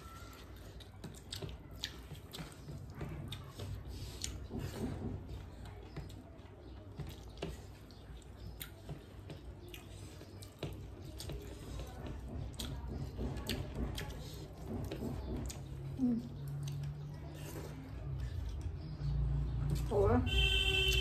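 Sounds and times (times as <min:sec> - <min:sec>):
chewing: 0:00.0 - 0:19.9.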